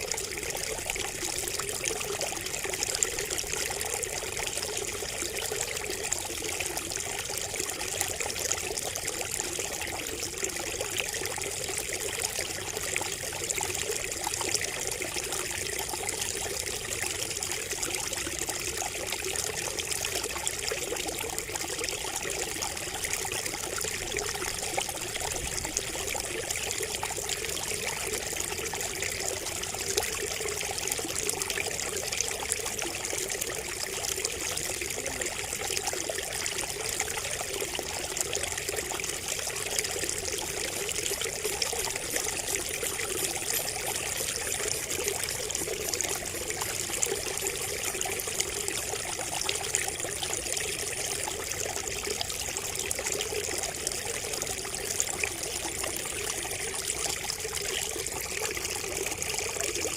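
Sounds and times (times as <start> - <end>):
water trickling from a spout: 0.0 - 59.9.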